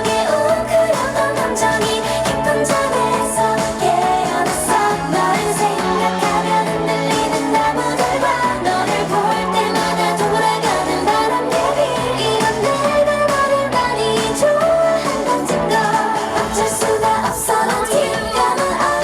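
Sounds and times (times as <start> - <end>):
pop song with female singing: 0.0 - 19.0
steady beat: 0.0 - 19.0.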